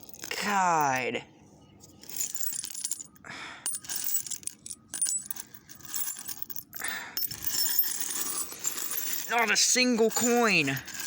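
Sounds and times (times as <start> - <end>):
metal nuts and bolts clinking: 1.9 - 11.0.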